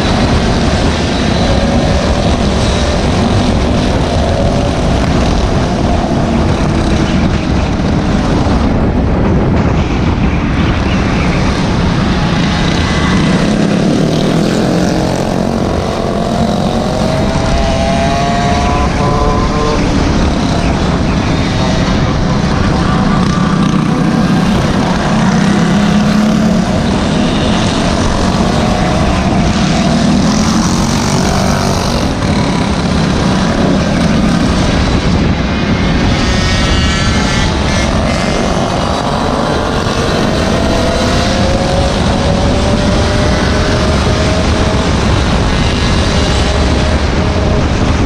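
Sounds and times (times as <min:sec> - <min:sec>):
rushing air: 0:00.0 - 0:48.0.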